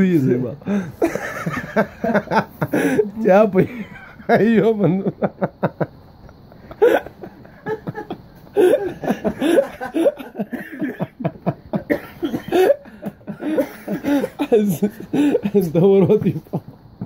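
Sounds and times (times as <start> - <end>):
men laughing: 0.6 - 17.0.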